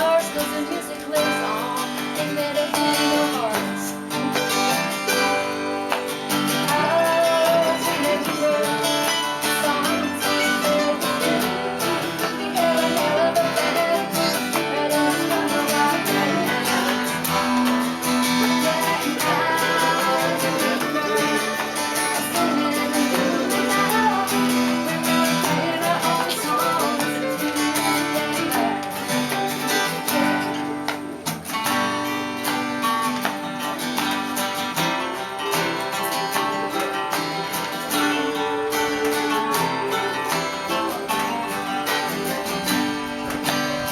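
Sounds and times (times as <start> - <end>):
person singing: 0.0 - 31.9, 34.4 - 43.9
acoustic guitar strumming: 0.0 - 43.9.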